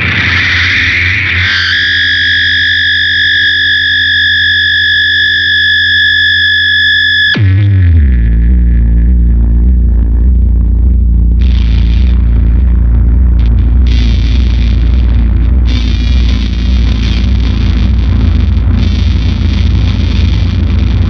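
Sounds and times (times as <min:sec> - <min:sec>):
fuzz electric guitar: 0:00.0 - 0:21.0.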